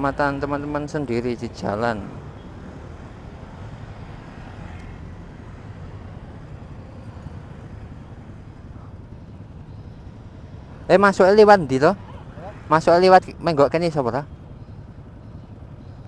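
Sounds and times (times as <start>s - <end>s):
motorbikes passing: 0.0s - 16.0s
street traffic rumble: 0.0s - 16.0s.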